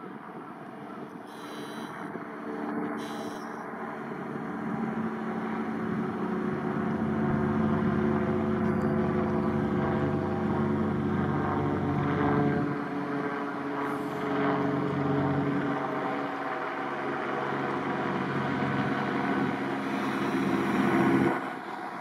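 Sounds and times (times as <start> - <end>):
steady engine drone: 0.0 - 22.0.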